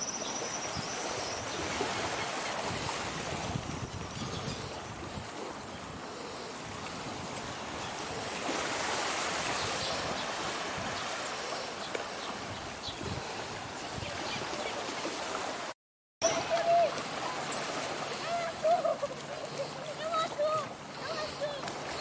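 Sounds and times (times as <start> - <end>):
small waves lapping on beach: 0.0 - 22.0.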